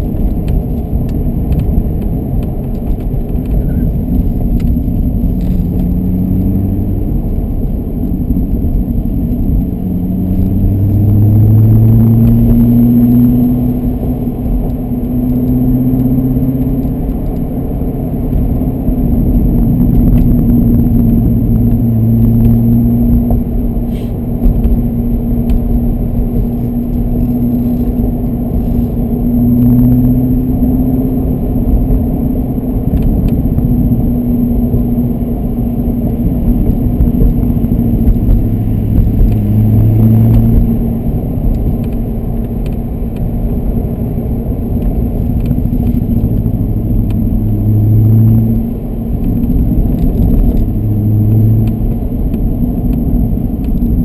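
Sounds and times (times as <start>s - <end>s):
car engine revving: 0.0s - 54.0s
low road rumble: 0.0s - 54.0s.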